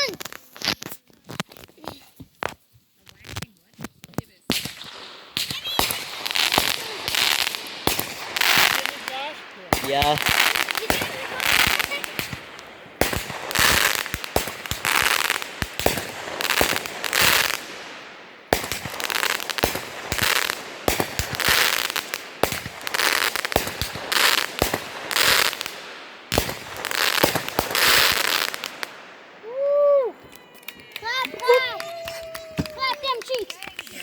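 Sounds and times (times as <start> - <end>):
firework bangs and crackling: 0.0 - 34.0.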